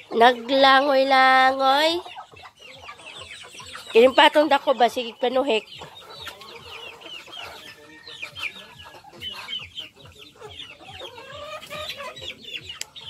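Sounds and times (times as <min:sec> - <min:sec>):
chickens clucking and peeping: 0:00.0 - 0:13.0.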